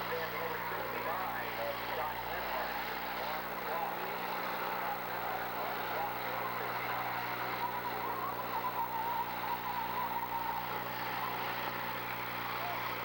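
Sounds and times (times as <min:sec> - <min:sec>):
wavering high whine: 0:00.0 - 0:13.0.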